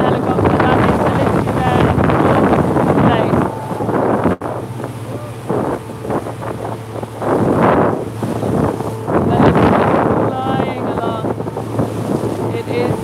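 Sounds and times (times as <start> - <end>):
low engine hum: 0.0 - 13.0
water splashing: 0.0 - 13.0
wind buffeting microphone: 0.0 - 13.0.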